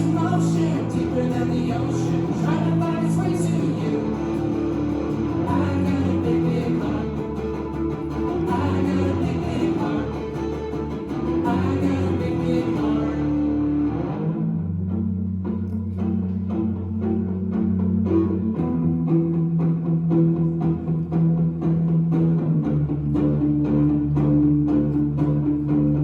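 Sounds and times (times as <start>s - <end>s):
bass guitar: 0.0s - 26.0s
electric guitar: 0.0s - 26.0s.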